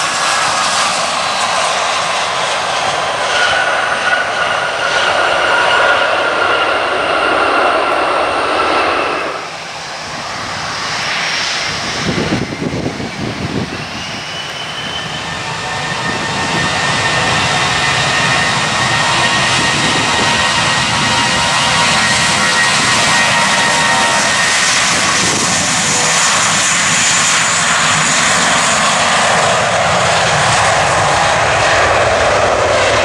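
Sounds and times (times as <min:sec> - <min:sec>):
jet engines whining and roaring: 0:00.0 - 0:33.0.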